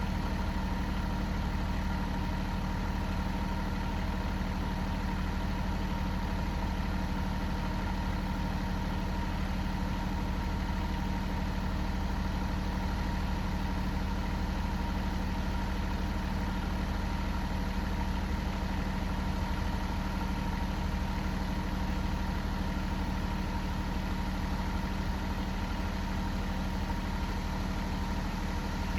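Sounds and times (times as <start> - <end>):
engine idling: 0.0 - 28.9.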